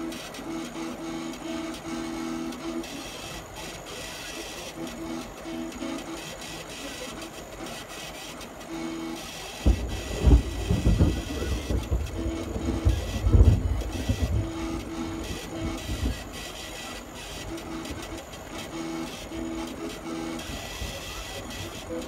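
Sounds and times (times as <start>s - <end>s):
stepper motors whining: 0.0s - 22.0s.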